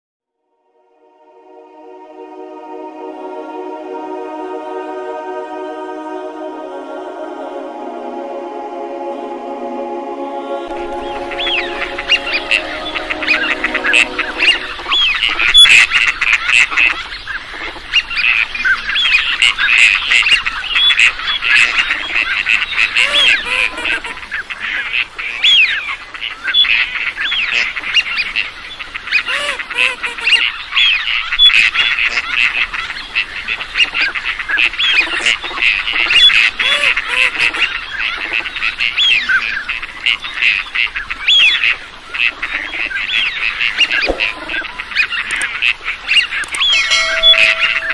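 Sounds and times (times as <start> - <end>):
ducks and geese calling: 1.3 - 47.9.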